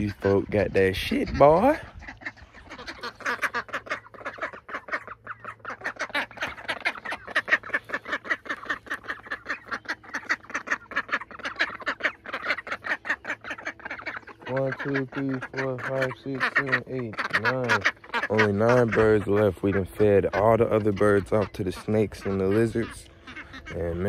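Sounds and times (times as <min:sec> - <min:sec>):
poultry chattering: 0:00.0 - 0:24.0.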